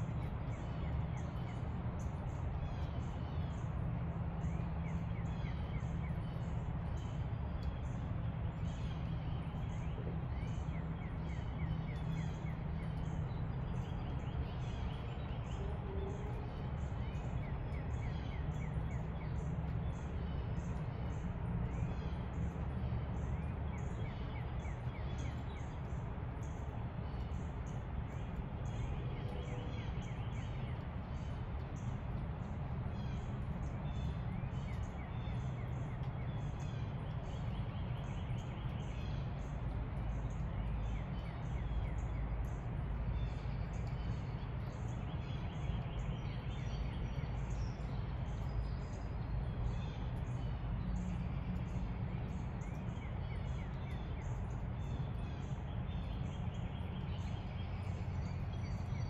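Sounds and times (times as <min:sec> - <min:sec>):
wild birds chirping and singing: 0:00.0 - 0:59.0.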